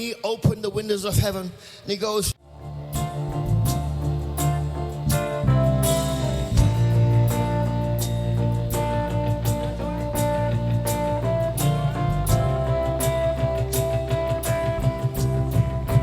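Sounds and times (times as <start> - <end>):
steady tapping beat: 2.9 - 16.0.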